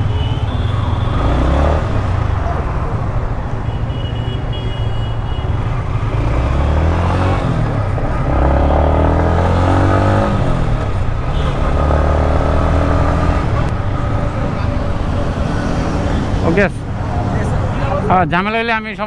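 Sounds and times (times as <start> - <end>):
motorcycle engine revving: 0.0 - 18.1.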